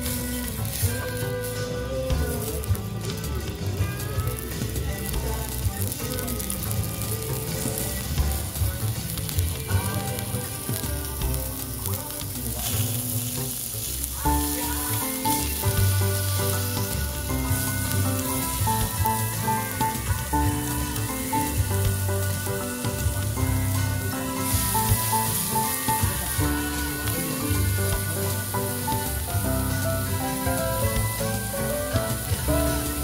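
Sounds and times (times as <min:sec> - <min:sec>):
background music with bass line: 0:00.0 - 0:33.0
meat sizzling on grill pan: 0:00.0 - 0:33.0.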